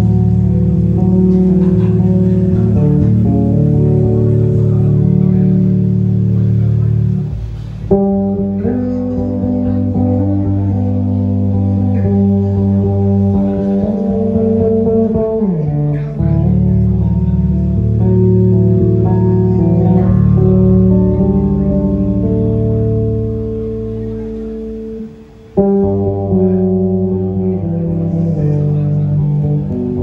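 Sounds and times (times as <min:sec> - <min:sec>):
electric bass guitar: 0:00.0 - 0:30.0.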